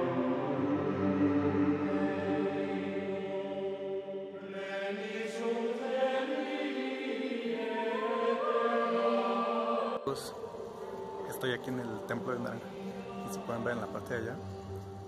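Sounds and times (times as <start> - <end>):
choir-like held chords: 0.0 - 15.0.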